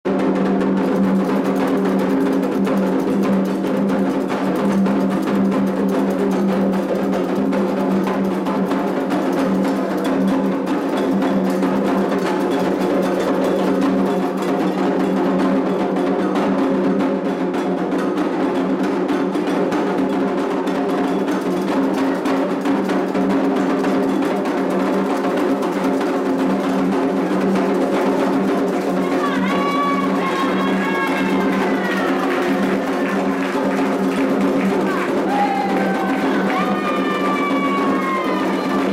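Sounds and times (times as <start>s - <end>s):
hand drums playing dense rhythm: 0.1s - 38.9s.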